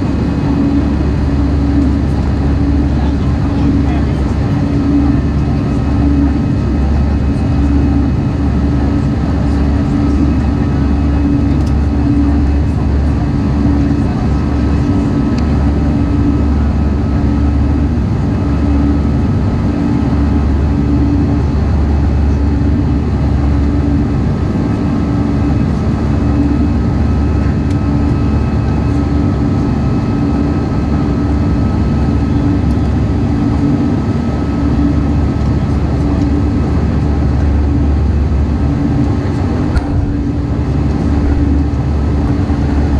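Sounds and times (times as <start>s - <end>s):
jet engines droning: 0.0s - 42.9s.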